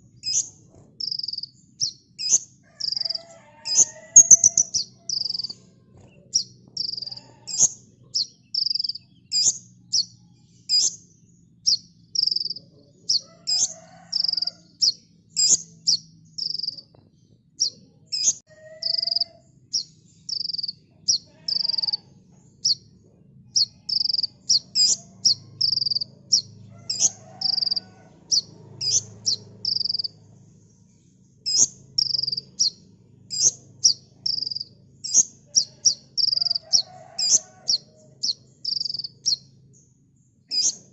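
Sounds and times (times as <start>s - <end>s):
sunbird chirping: 0.0s - 22.9s, 23.5s - 40.9s.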